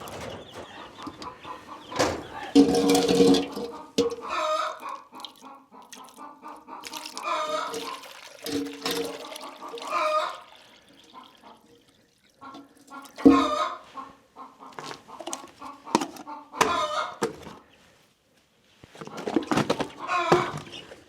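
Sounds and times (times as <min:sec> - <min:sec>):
chickens clucking: 0:00.0 - 0:18.0, 0:18.8 - 0:21.0.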